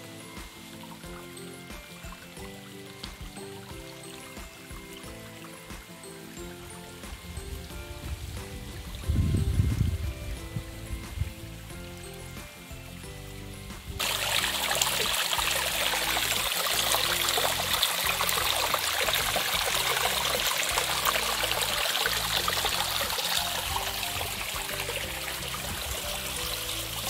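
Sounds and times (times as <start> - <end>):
stream water trickling over rock: 0.0 - 27.0.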